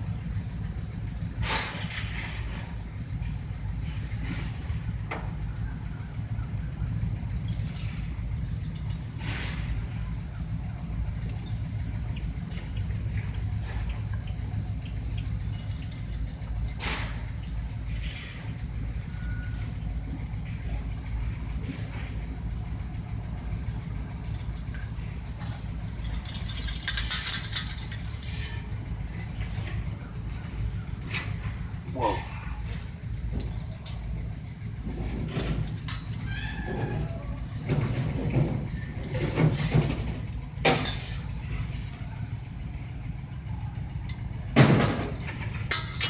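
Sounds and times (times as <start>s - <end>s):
vehicle engine running: 0.0s - 46.0s
rapid jingling clicks: 6.9s - 21.6s, 22.3s - 31.8s, 32.6s - 46.0s.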